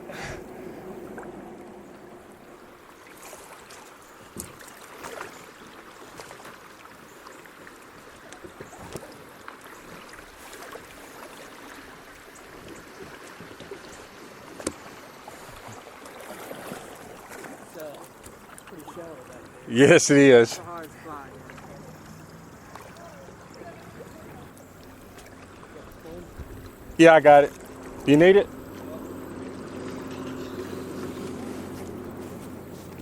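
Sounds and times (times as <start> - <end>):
paddle strokes: 0.0 - 33.0
running water rushing: 0.0 - 33.0.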